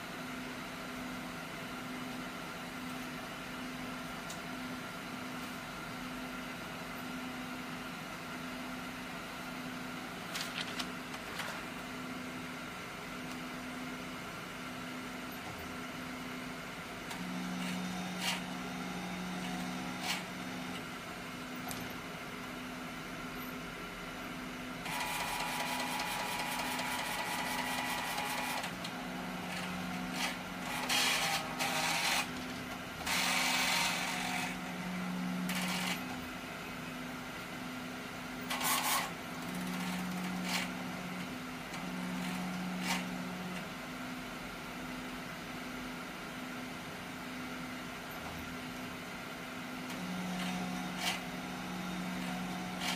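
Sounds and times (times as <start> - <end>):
printer machine hum: 0.0 - 46.0, 47.0 - 52.9.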